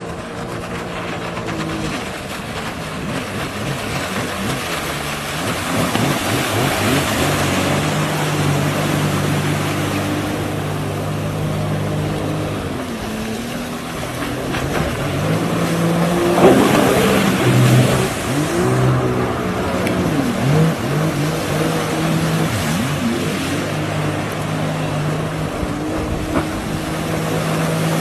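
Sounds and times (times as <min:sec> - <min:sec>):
motorboat engine running: 0:00.0 - 0:28.0
water rushing past hull: 0:00.0 - 0:28.0.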